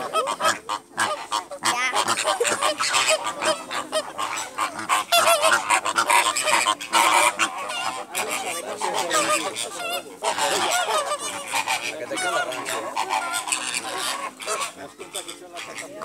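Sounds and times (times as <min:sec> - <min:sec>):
flamingos honking: 0:00.0 - 0:16.0.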